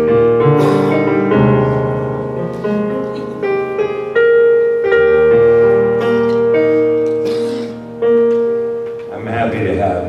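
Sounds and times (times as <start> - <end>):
keyboard playing slow chords: 0.0 - 9.1.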